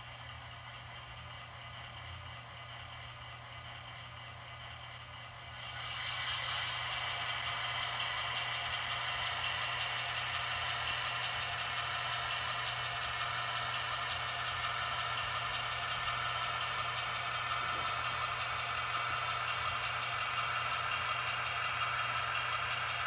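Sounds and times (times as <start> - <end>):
diesel engine through small speaker: 0.0 - 23.0.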